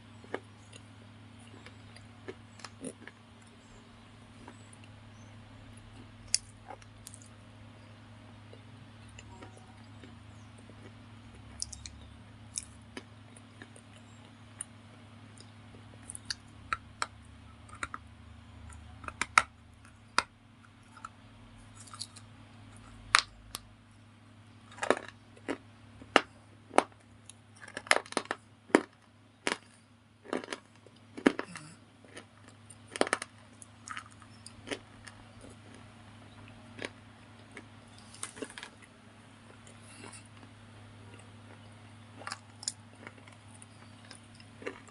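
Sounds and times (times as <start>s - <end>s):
steady low hum: 0.0s - 44.9s
biting and chewing crunches: 0.1s - 23.7s, 24.6s - 44.9s.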